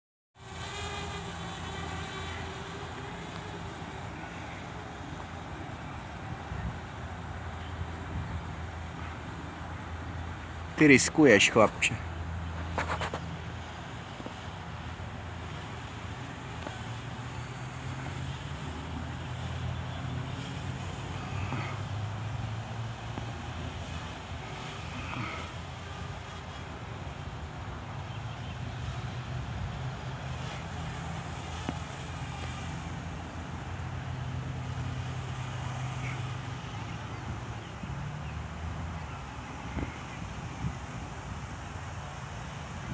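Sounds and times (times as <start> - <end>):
drone propellers humming: 0.4 - 42.9.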